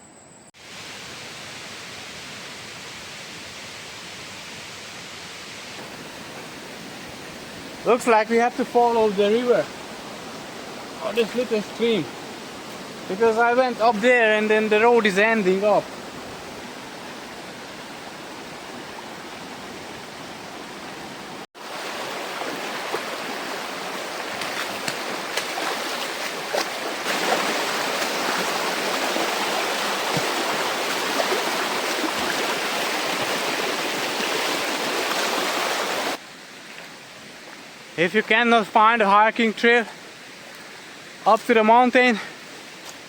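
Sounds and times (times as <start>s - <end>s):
stream rushing over rocks: 0.6s - 43.0s.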